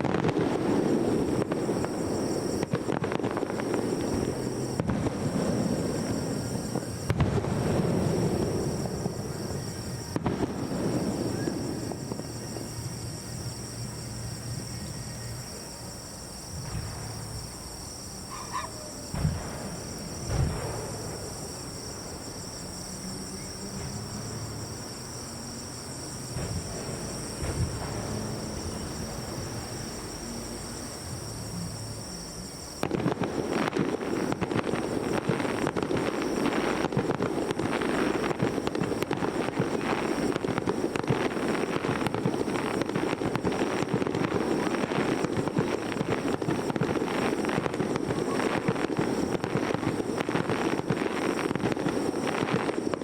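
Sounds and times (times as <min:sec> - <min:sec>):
fireworks booms: 0:00.0 - 0:53.0
fireworks crackling: 0:00.0 - 0:53.0
insects chirping: 0:00.0 - 0:53.0.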